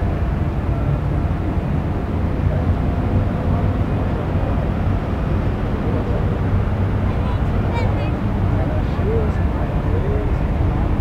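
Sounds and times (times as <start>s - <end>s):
ship engines rumbling: 0.0s - 11.0s.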